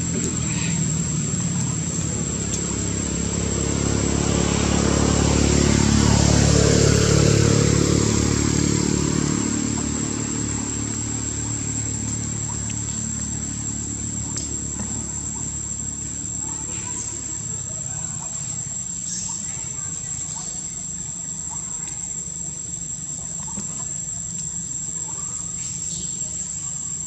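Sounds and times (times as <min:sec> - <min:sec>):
vehicle engine passing by: 0:00.0 - 0:24.1.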